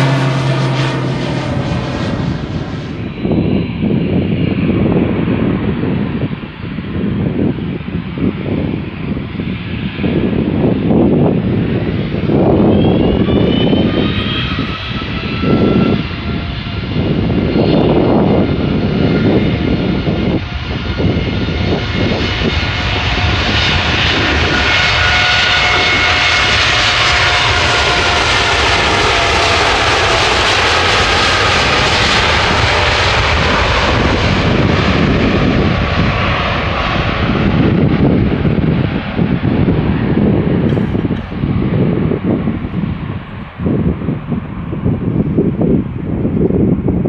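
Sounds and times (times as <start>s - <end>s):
jet engines spooling up: 0.0s - 4.8s, 10.1s - 46.2s
jet roar: 0.0s - 47.0s
wind buffeting microphone: 0.0s - 47.0s.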